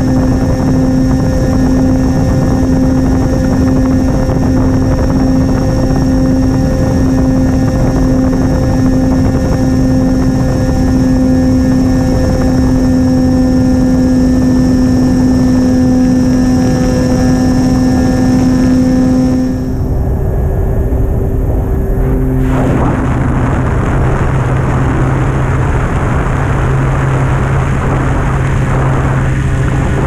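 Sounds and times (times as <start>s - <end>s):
electric propeller hum: 0.0s - 30.0s
rushing wind noise: 0.0s - 30.0s.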